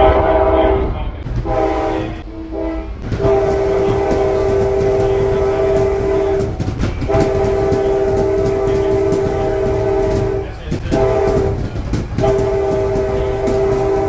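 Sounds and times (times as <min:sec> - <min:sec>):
locomotive air horn chord: 0:00.0 - 0:14.0
train rolling rumble: 0:00.0 - 0:14.0.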